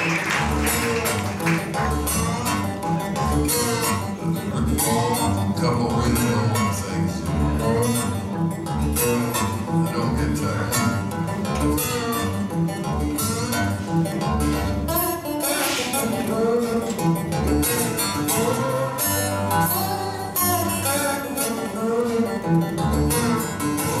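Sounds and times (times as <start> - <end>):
fingerstyle acoustic guitar: 0.0 - 24.0.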